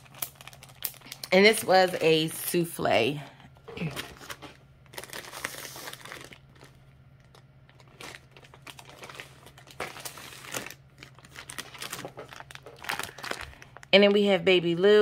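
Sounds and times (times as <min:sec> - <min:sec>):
plastic bags crinkling: 0:00.0 - 0:02.4, 0:03.6 - 0:14.4.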